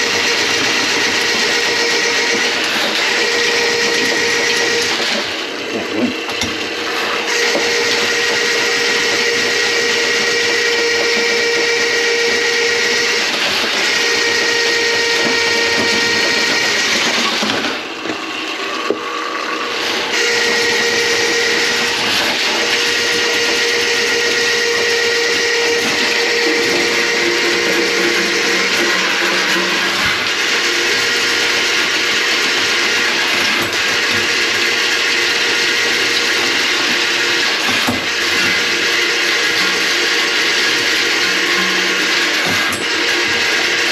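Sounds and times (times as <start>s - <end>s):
drain cleaning machine whining: 0.0s - 43.9s.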